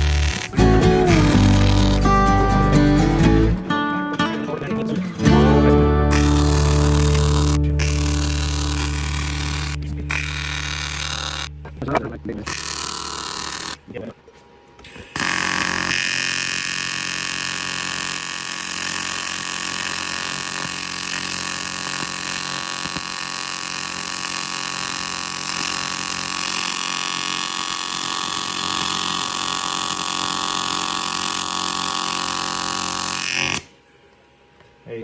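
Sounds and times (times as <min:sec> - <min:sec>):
welding arc buzzing: 0:00.0 - 0:03.7, 0:05.3 - 0:13.9, 0:14.8 - 0:33.8.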